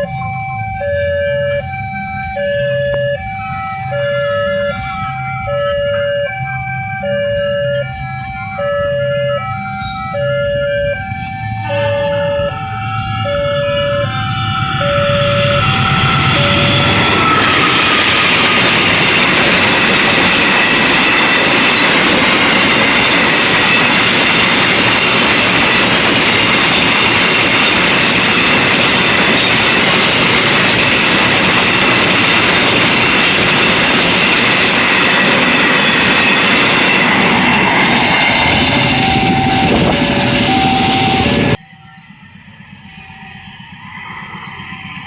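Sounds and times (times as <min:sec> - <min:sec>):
high squealing tones: 0:00.0 - 0:45.0
train wheels rushing on rails: 0:00.0 - 0:45.0
two-tone crossing alarm: 0:00.0 - 0:45.0.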